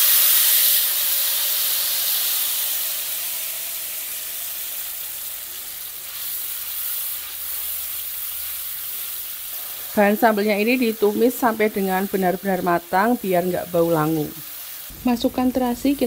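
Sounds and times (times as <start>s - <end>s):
chili paste sizzling in oil: 0.0s - 16.0s.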